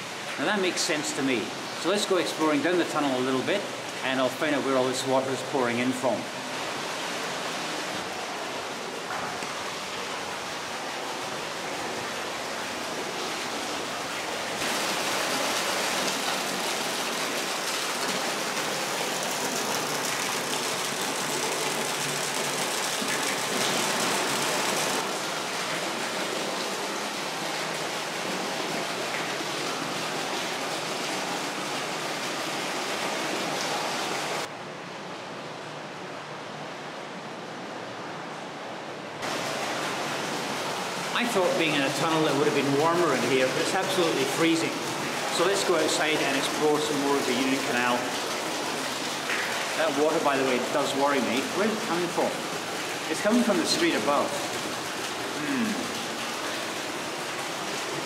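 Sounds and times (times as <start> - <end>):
water pouring and splashing: 0.0 - 34.5, 39.2 - 58.0.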